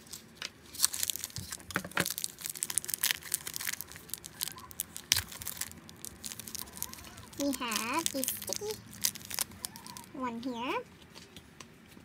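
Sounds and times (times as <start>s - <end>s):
plastic wrapper crinkling and tearing: 0.0s - 10.3s.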